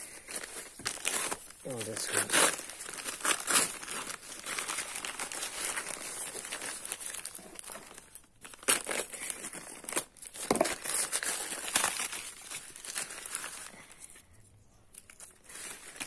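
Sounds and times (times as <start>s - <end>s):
packaging crinkling and rustling: 0.0s - 14.2s, 15.0s - 16.0s.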